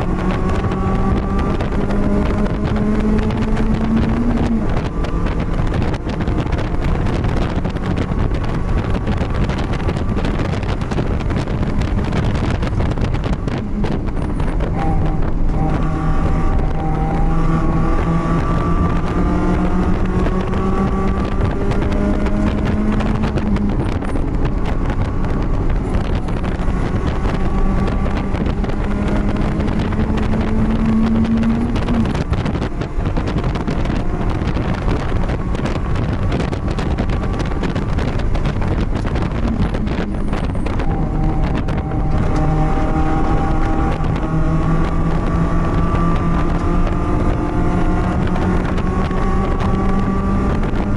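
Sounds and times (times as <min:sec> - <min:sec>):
race car engine: 0:00.0 - 0:50.9
wind noise on microphone: 0:00.0 - 0:50.9.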